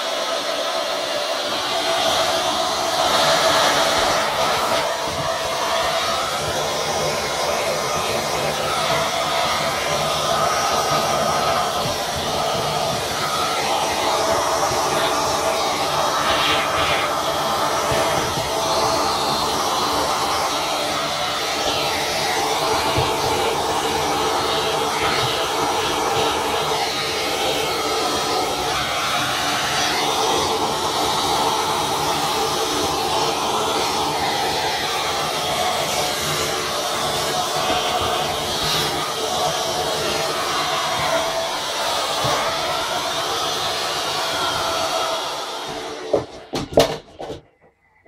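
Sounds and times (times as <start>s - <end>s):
vacuum cleaner running: 0.0s - 47.0s.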